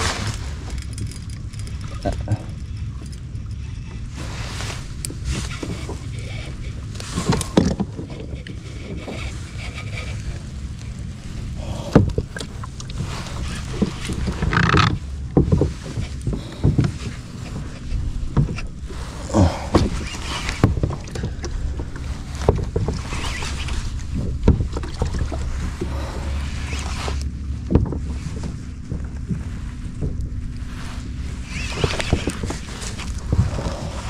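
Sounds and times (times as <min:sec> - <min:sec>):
water moving around kayak: 0:00.0 - 0:34.0
wind on microphone: 0:00.0 - 0:34.0
knocks and splashes: 0:04.0 - 0:10.0, 0:11.3 - 0:34.0.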